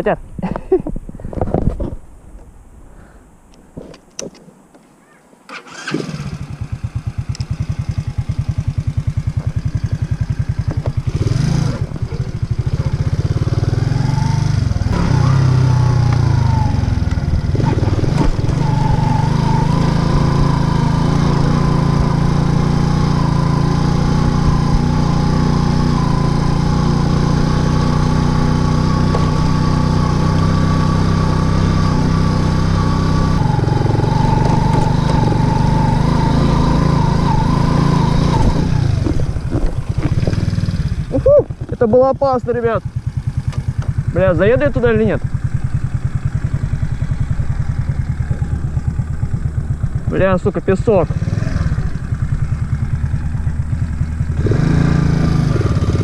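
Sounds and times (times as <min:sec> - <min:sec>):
moped engine starting and revving: 0:05.5 - 0:56.0.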